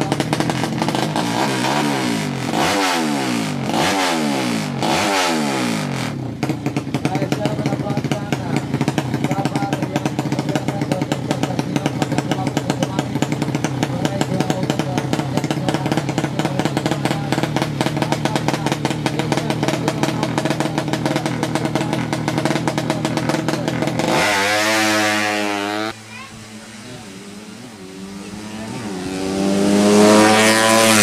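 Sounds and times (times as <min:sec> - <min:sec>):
motorcycle engine idling and revving: 0:00.0 - 0:31.0.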